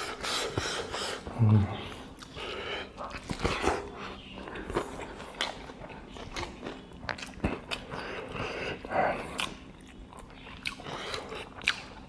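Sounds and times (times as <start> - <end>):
chewing rice: 0.1 - 12.0.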